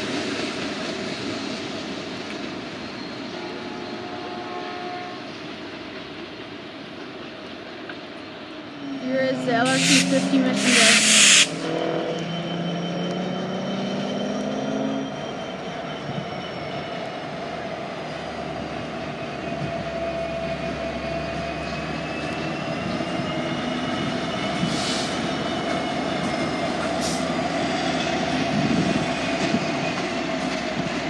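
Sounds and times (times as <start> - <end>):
diesel locomotive engines rumbling: 0.0 - 31.0
rail and wheel noise: 0.0 - 31.0.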